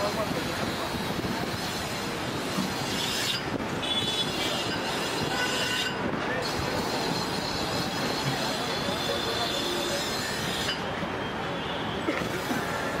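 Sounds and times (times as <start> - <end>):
busy street noise: 0.0 - 13.0.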